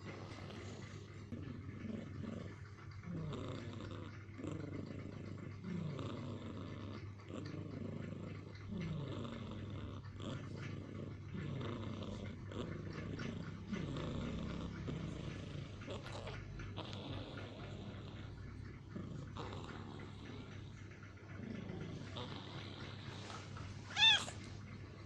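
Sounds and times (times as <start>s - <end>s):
cat snoring: 0.0s - 24.5s.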